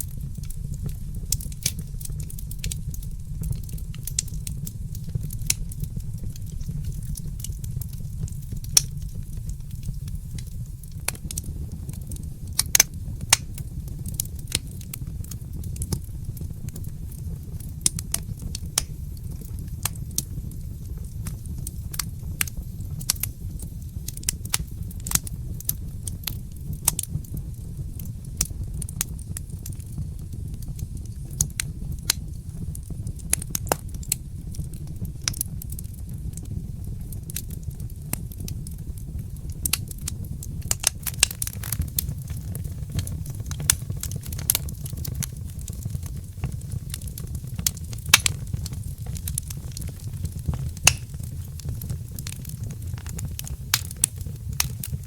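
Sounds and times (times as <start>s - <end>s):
fire crackling and popping: 0.0s - 55.0s
low fire rumble: 0.0s - 55.0s.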